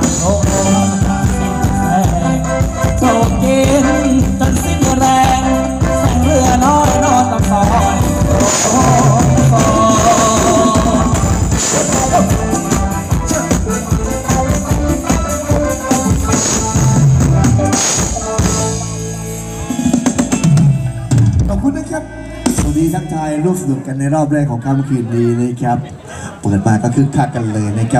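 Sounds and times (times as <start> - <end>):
drum kit: 0.0 - 23.2.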